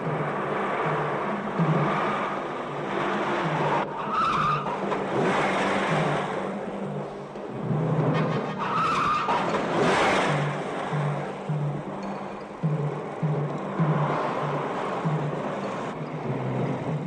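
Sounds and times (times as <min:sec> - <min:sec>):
car speeding: 0:00.0 - 0:17.0
film score low note: 0:00.0 - 0:17.0
tyres squealing: 0:00.0 - 0:17.0.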